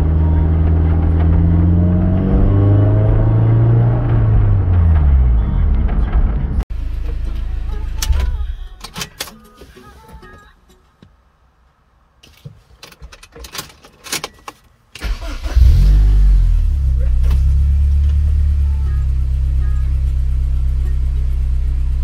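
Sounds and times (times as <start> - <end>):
car engine starting and idling: 0.0 - 10.2, 11.4 - 22.0.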